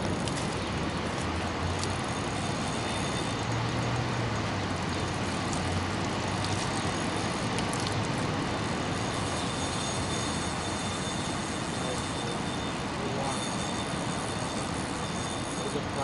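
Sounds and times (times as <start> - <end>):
water rushing through spillway: 0.0 - 16.0.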